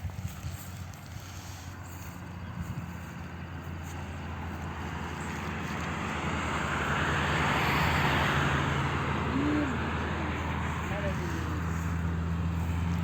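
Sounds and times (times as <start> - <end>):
motor vehicle humming and rushing: 0.0 - 13.0.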